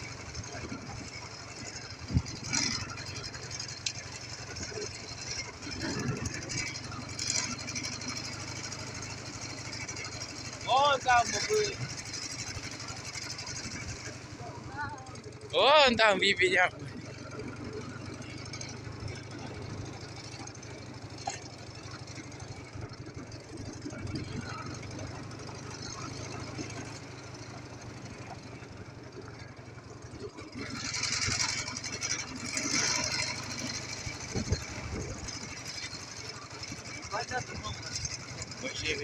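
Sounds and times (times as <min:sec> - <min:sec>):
motorcycle engine throbbing: 0:00.0 - 0:39.0.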